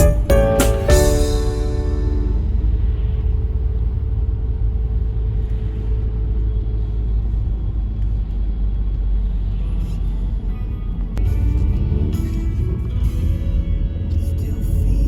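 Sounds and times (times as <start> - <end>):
car road and engine rumble: 0.2 - 15.0.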